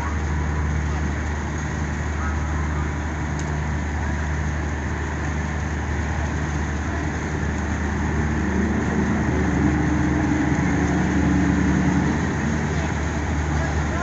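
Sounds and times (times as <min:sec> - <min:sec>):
heavy engine droning: 0:00.0 - 0:14.0
higher engine note: 0:00.0 - 0:14.0.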